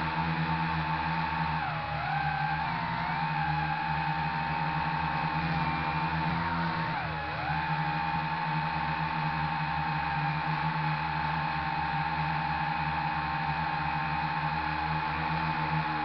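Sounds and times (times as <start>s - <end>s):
model aircraft motor whine: 0.0s - 16.0s.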